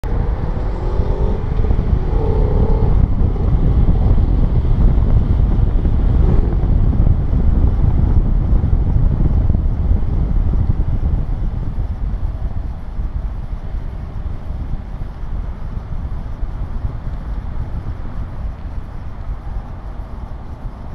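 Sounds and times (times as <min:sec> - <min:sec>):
moving vehicle noise: 0:00.0 - 0:20.9
wind buffeting microphone: 0:00.0 - 0:20.9.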